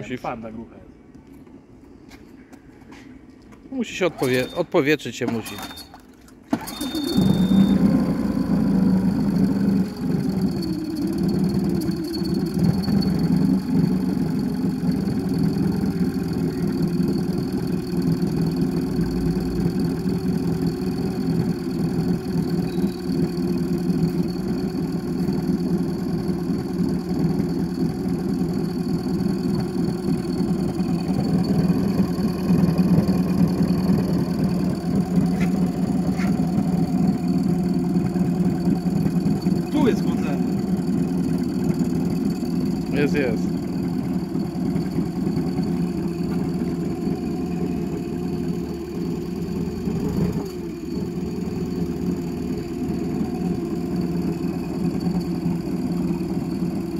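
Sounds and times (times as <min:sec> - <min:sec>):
outboard motor starting and idling: 0:03.9 - 0:56.9.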